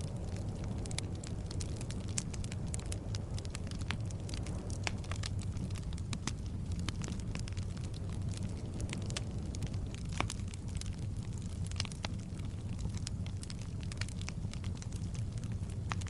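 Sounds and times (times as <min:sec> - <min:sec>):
fire flame rumble: 0:00.0 - 0:16.0
wood crackling and popping: 0:00.0 - 0:16.0.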